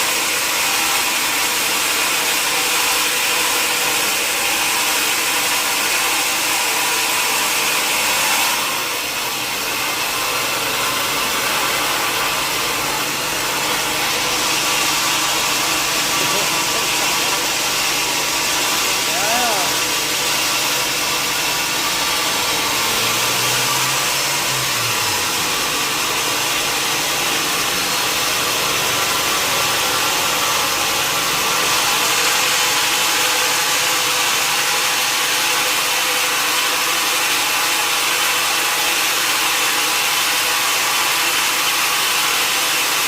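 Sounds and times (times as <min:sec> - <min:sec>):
sawmill saw cutting wood: 0:00.0 - 0:43.0.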